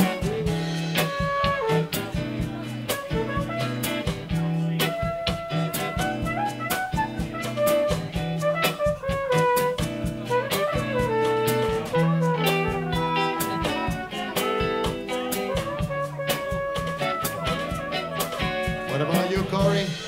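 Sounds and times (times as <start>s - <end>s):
drum hits: 0.0s - 20.0s
horn-like lead melody: 0.0s - 20.0s.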